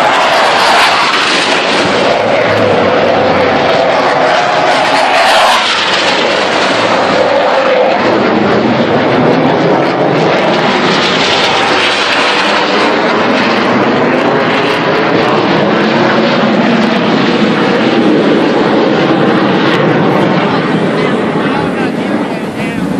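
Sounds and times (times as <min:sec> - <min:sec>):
jet flying overhead: 0:00.0 - 0:22.9.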